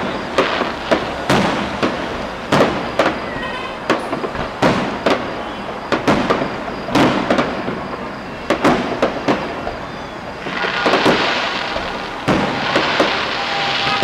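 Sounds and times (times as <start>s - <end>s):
firework bangs: 0.0s - 14.0s
firework crackle: 0.0s - 14.0s.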